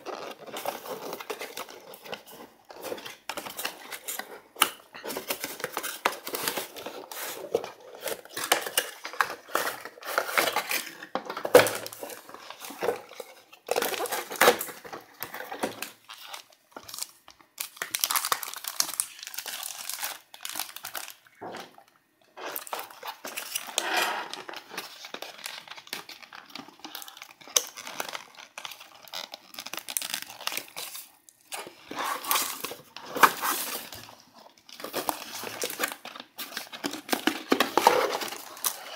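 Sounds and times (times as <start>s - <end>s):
cardboard rustling and crinkling: 0.0s - 17.1s, 22.4s - 38.9s.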